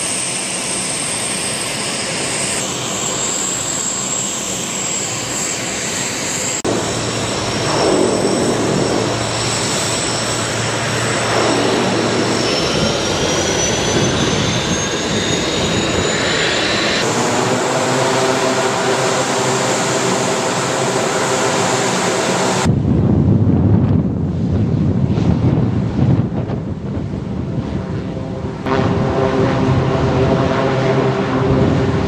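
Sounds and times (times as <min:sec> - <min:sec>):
high turbine whine: 0:00.0 - 0:23.0, 0:25.5 - 0:32.0
propeller drone: 0:00.0 - 0:32.0.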